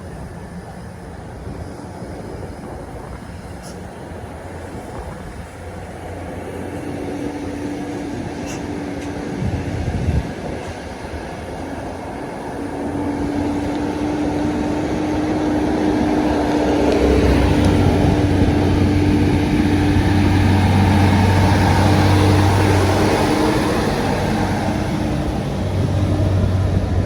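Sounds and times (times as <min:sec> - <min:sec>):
heavy vehicle engine humming: 0:00.0 - 0:27.0.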